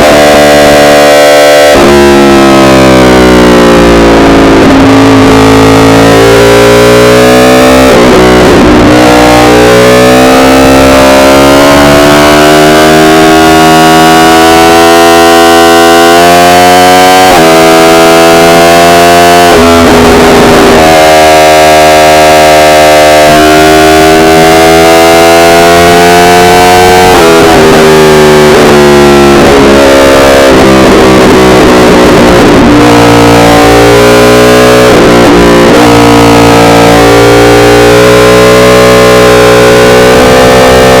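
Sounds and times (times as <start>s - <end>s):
motorcycle engine accelerating hard: 0.0s - 41.0s.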